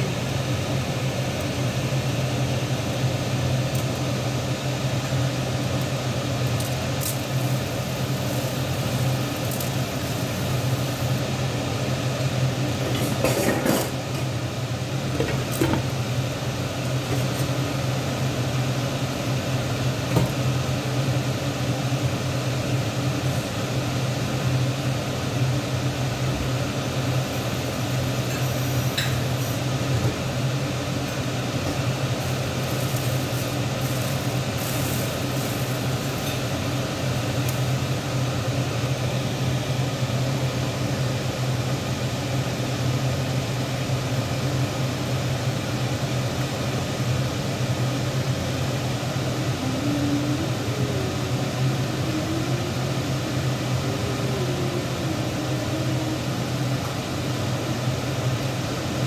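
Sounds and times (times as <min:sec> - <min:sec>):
machine hum: 0:00.0 - 0:41.4, 0:44.5 - 0:59.0.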